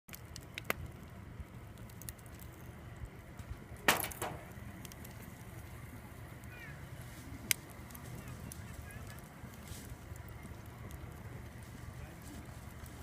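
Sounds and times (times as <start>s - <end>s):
bonfire crackling: 0.1s - 13.0s
low fire rumble: 0.1s - 13.0s.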